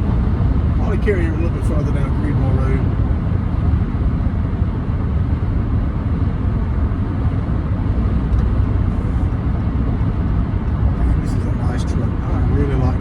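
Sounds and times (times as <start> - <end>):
road and wind noise in a vehicle: 0.0 - 13.0.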